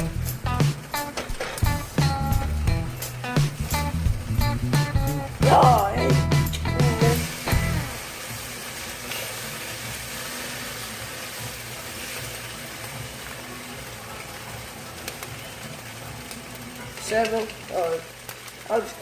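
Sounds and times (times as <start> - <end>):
bacon sizzling in a pan: 0.0 - 19.0.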